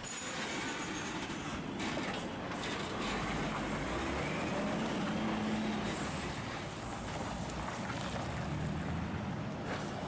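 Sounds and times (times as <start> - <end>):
road traffic rushing: 0.0 - 10.0.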